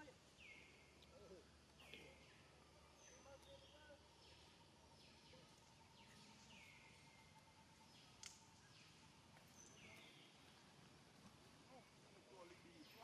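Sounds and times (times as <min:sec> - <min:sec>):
bird calls: 0:00.0 - 0:10.7
faint steady whine: 0:00.0 - 0:13.0.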